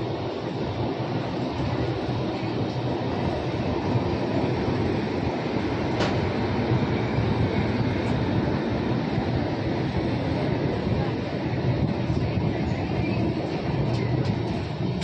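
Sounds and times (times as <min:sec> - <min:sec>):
train coach rumbling on rails: 0:00.0 - 0:15.0.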